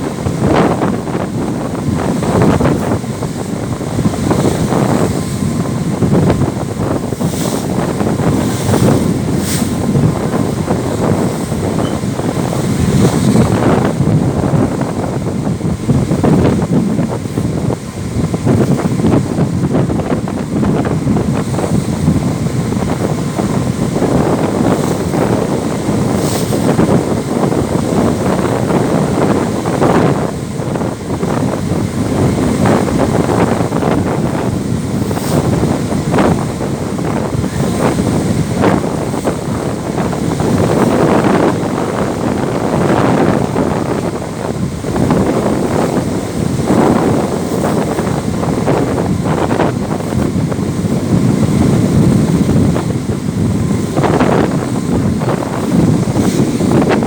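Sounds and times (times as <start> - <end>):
shirt flapping in wind: 0.0 - 57.0
strong wind buffeting microphone: 0.0 - 57.0.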